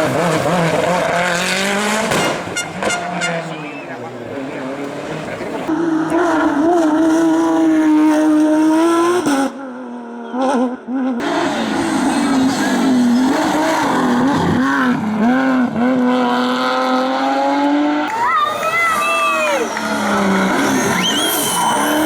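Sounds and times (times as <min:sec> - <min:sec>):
racing car engine at high revs: 0:00.0 - 0:22.0.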